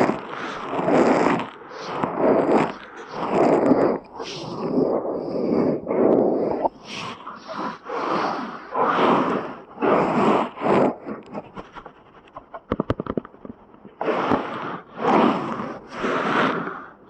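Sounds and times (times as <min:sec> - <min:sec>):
scratching and rubbing at microphone: 0:00.0 - 0:17.0.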